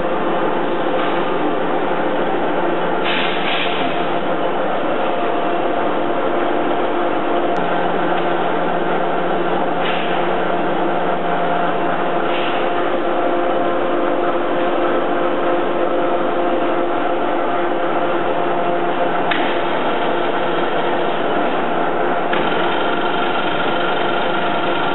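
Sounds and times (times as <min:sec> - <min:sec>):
lathe motor humming and whining: 0:00.0 - 0:24.9.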